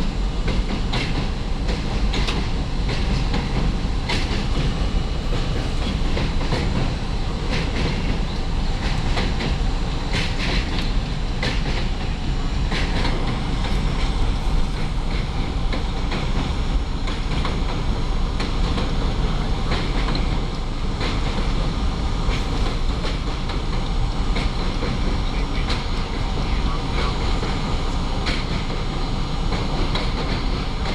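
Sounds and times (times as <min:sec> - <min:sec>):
subway train rumbling: 0:00.0 - 0:30.9.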